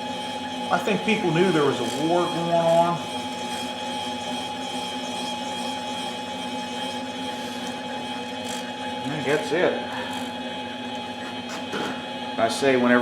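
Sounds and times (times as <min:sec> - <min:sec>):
metal lathe droning: 0:00.0 - 0:13.0.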